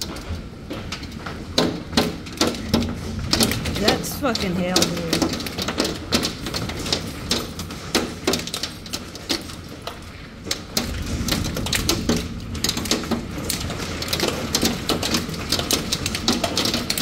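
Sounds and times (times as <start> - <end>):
hailstones striking hard surfaces: 0.0 - 17.0.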